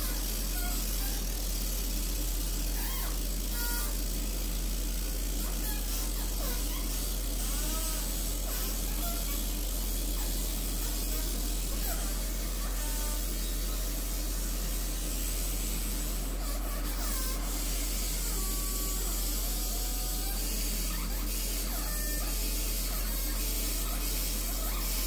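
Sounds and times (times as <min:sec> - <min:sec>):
electrical equipment whirring: 0:00.0 - 0:25.0
low mains hum: 0:00.0 - 0:25.0.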